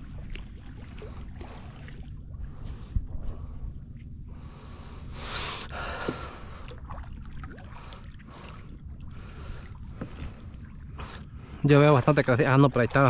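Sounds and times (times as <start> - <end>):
water lapping around a canoe: 0.0 - 13.0.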